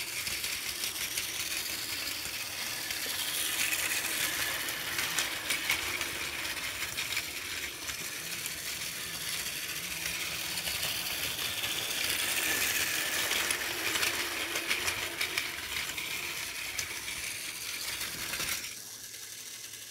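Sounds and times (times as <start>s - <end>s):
toy train motor whirring: 0.0s - 19.9s
wheels clicking over track joints: 0.0s - 19.9s.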